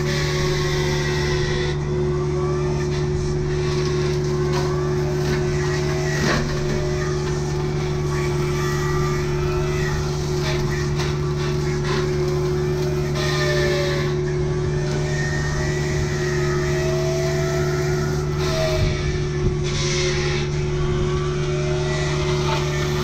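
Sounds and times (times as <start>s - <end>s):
diesel engine running: 0.0s - 23.0s
whine shifting in pitch: 0.0s - 23.0s.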